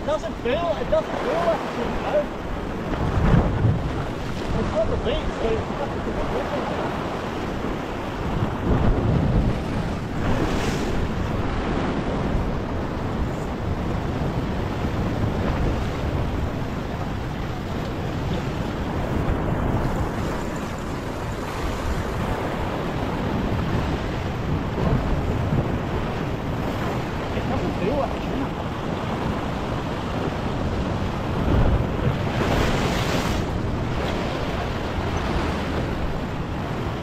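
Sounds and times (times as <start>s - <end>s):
ocean swell washing against rock: 0.0s - 37.0s
wind buffeting the microphone: 0.0s - 37.0s.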